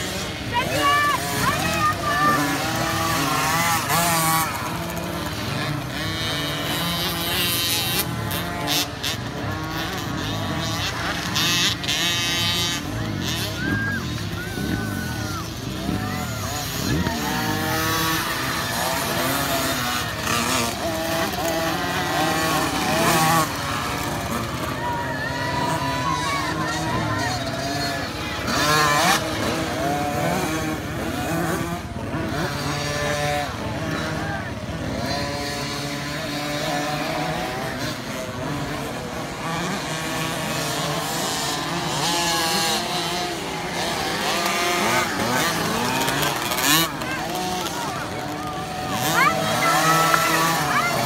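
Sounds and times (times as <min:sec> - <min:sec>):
motocross bike engines revving: 0:00.0 - 0:51.0.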